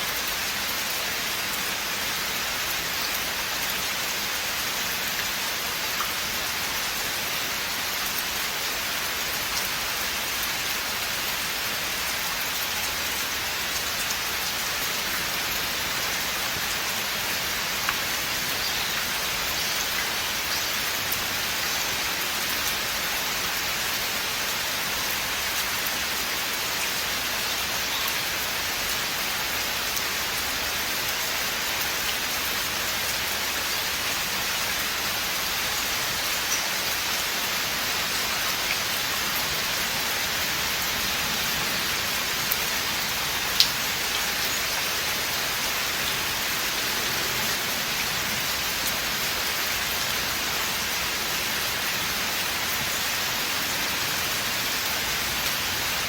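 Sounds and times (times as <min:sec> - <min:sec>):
rain falling in a forest: 0:00.0 - 0:56.0.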